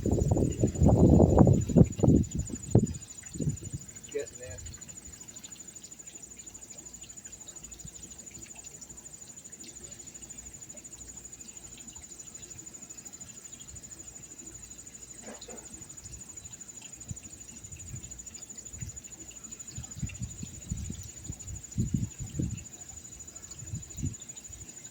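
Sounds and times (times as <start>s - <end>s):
crickets trilling: 0.0s - 24.9s.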